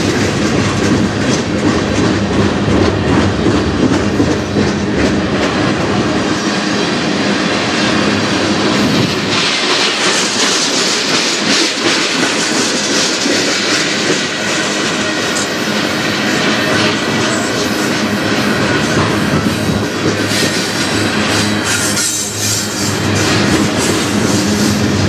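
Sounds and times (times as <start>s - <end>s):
train wheels clickety-clack: 0.0s - 25.0s.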